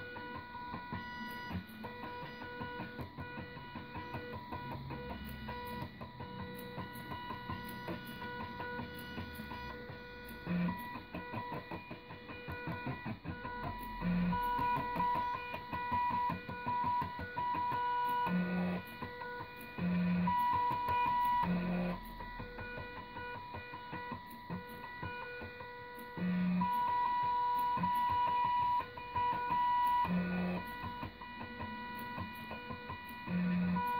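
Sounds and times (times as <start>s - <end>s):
stepper motors whining and ticking: 0.0s - 33.9s.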